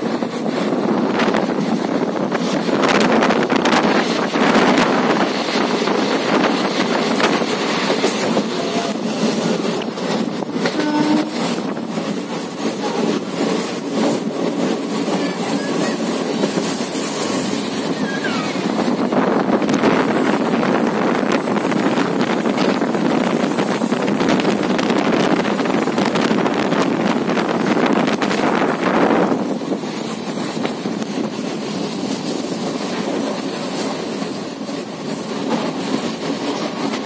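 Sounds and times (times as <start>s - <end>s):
train wheels clattering on rails: 0.0s - 37.0s
wind buffeting microphone: 0.0s - 37.0s.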